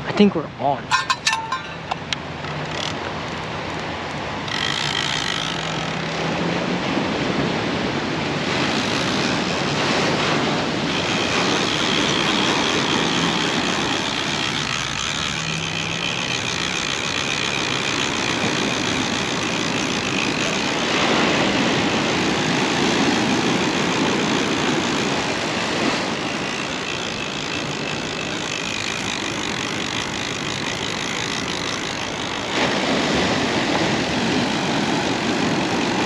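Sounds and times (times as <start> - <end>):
surf on shoreline: 0.0 - 36.0.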